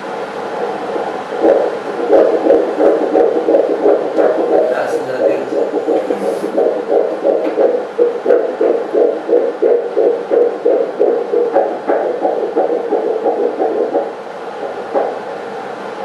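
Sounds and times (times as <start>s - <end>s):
ultrasound doppler heartbeat pulses: 0.0s - 15.6s.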